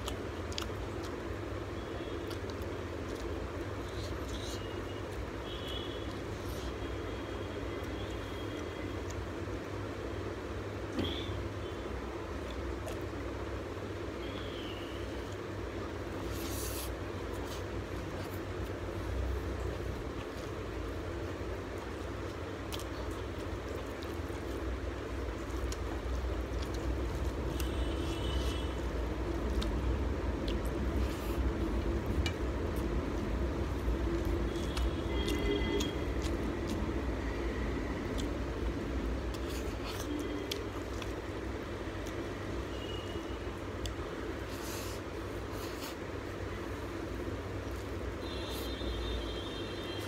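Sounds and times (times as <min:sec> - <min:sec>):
wet chewing and squishing: 0:00.0 - 0:09.7, 0:12.3 - 0:13.6, 0:15.1 - 0:48.6.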